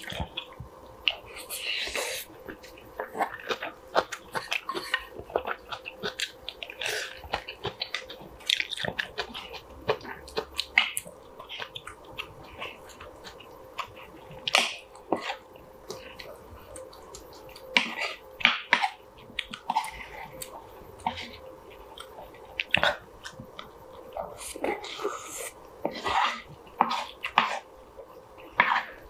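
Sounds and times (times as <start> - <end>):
person chewing: 0.0 - 29.0.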